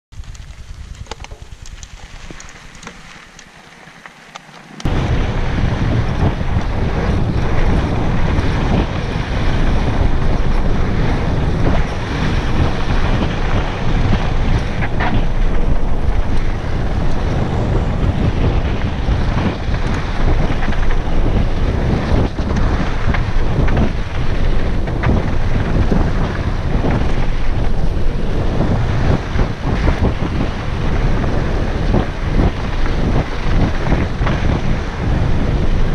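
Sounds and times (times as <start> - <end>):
bike rattling over bumps: 0.1 - 35.9
wind buffeting microphone: 0.2 - 3.2, 4.8 - 35.9.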